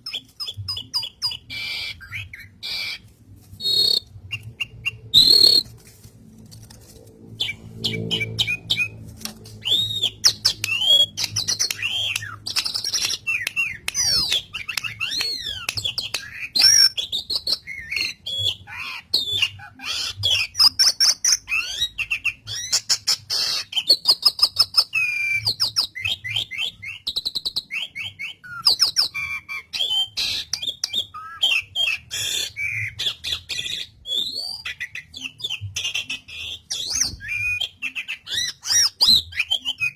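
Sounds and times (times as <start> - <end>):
starling singing: 0.0 - 5.7, 7.3 - 39.9.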